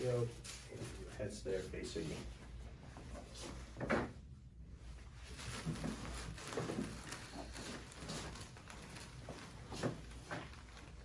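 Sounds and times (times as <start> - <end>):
rustling on padded table: 0.3 - 4.2, 4.9 - 11.0.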